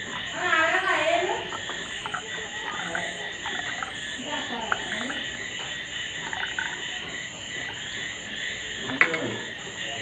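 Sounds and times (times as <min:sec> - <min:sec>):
frogs croaking: 0:00.0 - 0:10.0
insects chirring: 0:00.0 - 0:10.0
shrill pulsing trill: 0:00.0 - 0:10.0.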